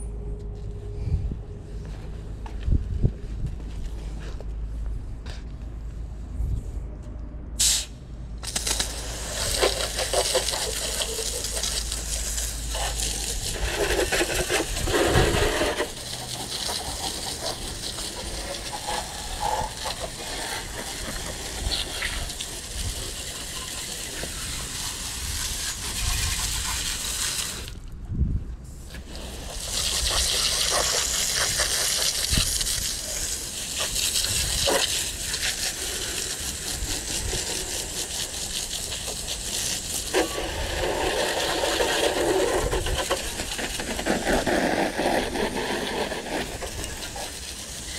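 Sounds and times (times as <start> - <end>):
water spray hissing and splattering: 8.4 - 27.8, 28.8 - 47.9.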